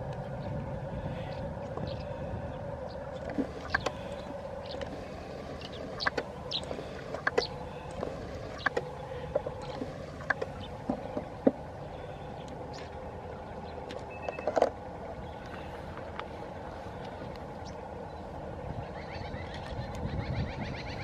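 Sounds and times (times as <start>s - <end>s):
diesel train drone: 0.0s - 21.0s.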